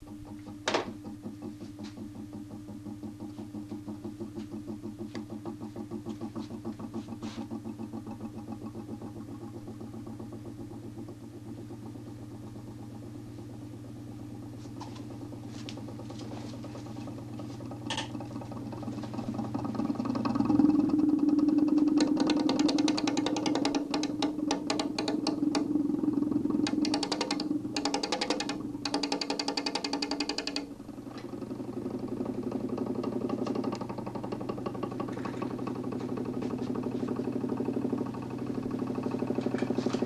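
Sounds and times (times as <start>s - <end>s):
motor humming with throb: 0.0s - 40.0s.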